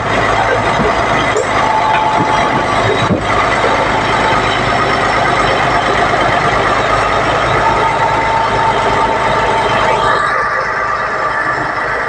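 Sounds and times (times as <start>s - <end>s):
diesel engine running: 0.0s - 12.0s
thin whine: 0.4s - 12.0s.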